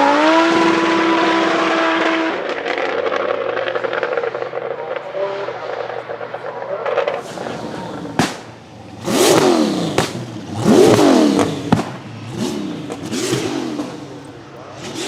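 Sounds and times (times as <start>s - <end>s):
car engine revving: 0.0s - 15.0s
sharp bangs: 2.3s - 15.0s.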